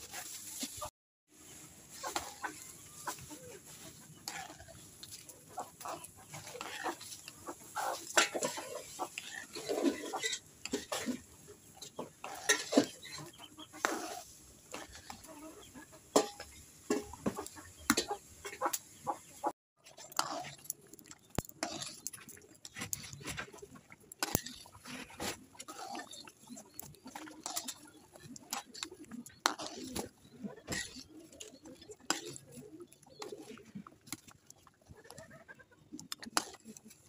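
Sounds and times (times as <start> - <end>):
thick curry bubbling in a pan: 1.3 - 19.0, 19.8 - 37.0.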